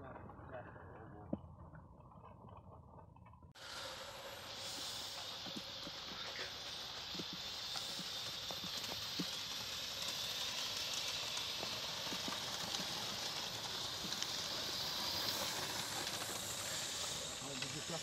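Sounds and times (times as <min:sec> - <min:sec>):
wheels clicking on track: 0:00.0 - 0:18.0
steam exhaust hissing: 0:03.6 - 0:18.0.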